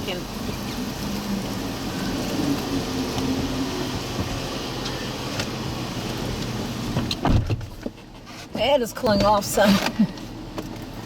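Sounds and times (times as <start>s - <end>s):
strong wind against a car: 0.0s - 11.0s.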